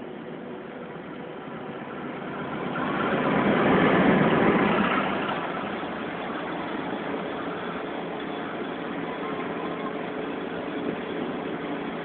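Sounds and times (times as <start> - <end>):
diesel locomotive passing: 0.0 - 12.0.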